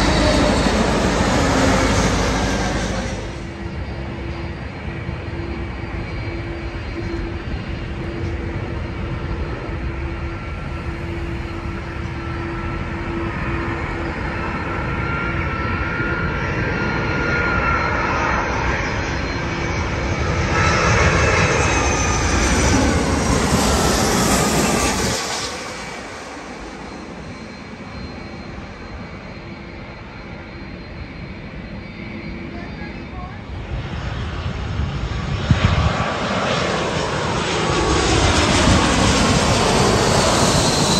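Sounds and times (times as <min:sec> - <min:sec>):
jet airliner flying over: 0:00.0 - 0:40.9
jet engine whine: 0:00.0 - 0:40.9.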